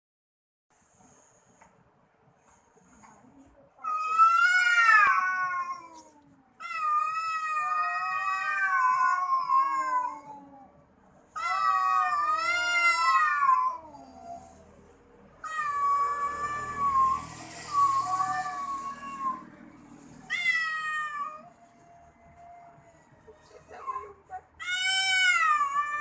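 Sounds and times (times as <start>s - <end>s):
cats yowling: 3.8s - 14.8s, 15.4s - 26.0s.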